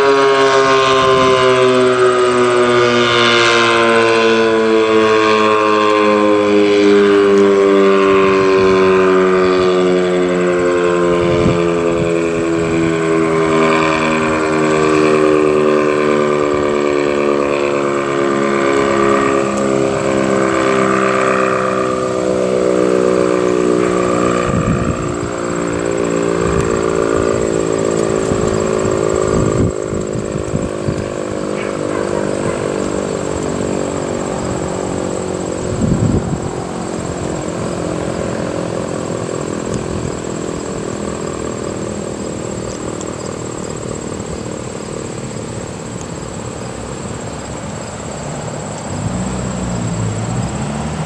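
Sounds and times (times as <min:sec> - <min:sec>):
warning siren winding down: 0:00.0 - 0:51.0.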